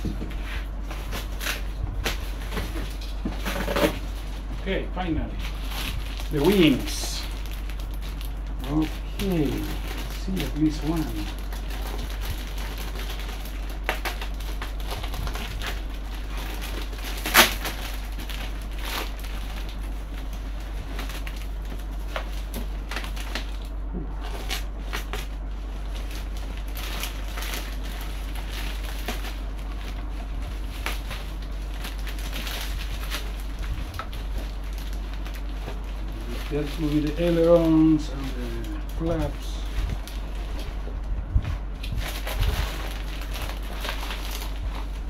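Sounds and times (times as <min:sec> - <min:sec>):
plastic packaging crinkling: 0:00.0 - 0:45.0.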